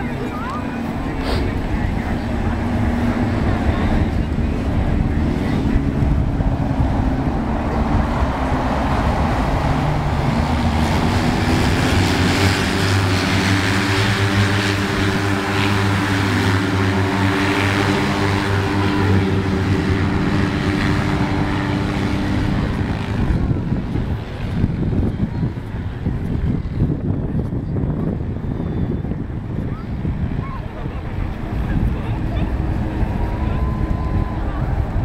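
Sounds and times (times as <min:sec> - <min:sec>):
several vehicle engines droning: 0:00.0 - 0:35.0.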